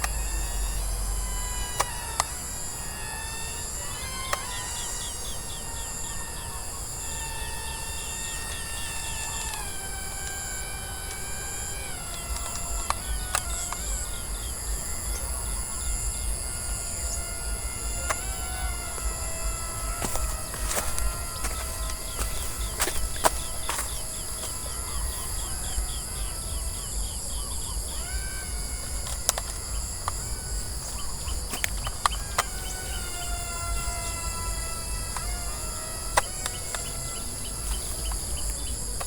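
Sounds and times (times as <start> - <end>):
high insect trill: 0.0 - 39.0
model plane electric motor whining: 0.0 - 39.0.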